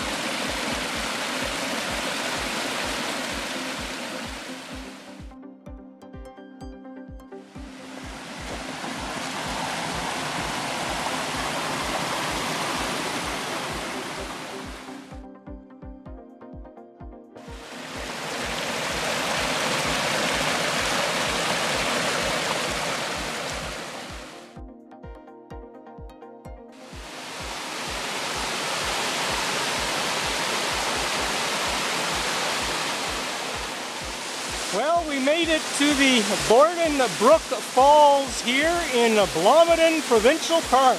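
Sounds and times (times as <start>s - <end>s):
water rushing over rocks: 0.0s - 5.2s, 7.6s - 15.1s, 17.5s - 24.5s, 26.9s - 40.9s.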